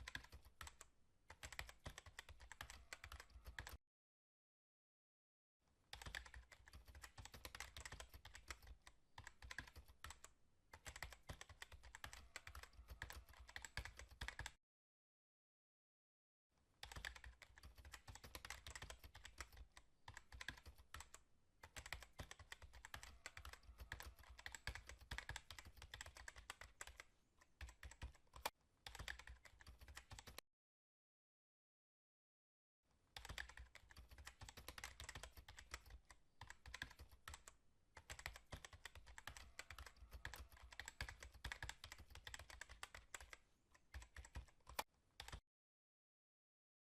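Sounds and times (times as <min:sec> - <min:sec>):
rapid keyboard typing: 0:00.0 - 0:03.8, 0:05.9 - 0:14.6, 0:16.8 - 0:30.4, 0:33.2 - 0:45.4.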